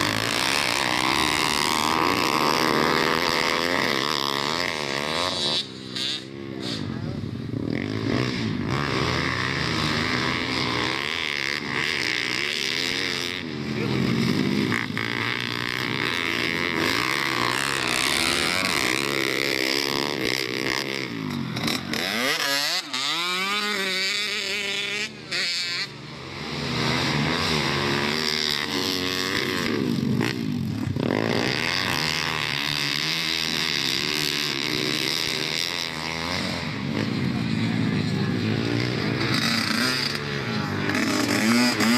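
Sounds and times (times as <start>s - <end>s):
pit bike engines racing: 0.0s - 41.9s.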